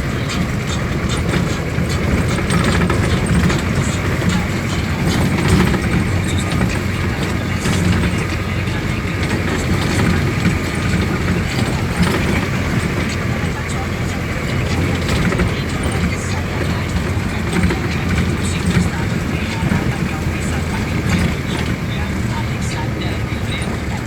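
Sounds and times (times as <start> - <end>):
vehicle rumble: 0.0 - 24.0.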